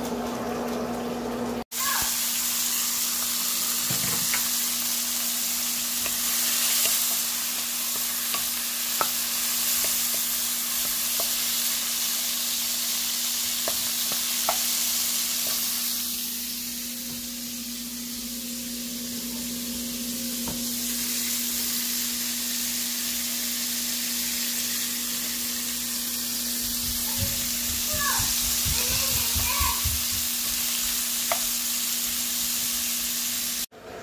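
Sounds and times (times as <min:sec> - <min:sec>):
mushrooms sizzling in oil: 0:01.7 - 0:33.7.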